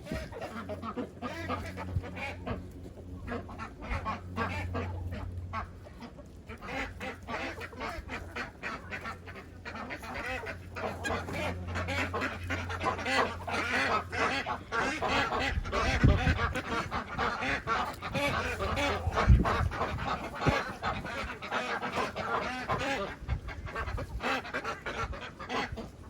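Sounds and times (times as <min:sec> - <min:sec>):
chickens calling: 0:00.0 - 0:26.0
ducks quacking: 0:00.0 - 0:26.0
steady low hum: 0:00.0 - 0:26.0.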